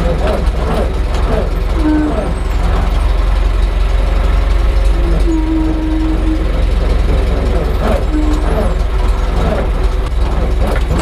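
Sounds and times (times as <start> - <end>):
steady whine: 0.0 - 11.0
truck engine rumbling: 0.0 - 11.0.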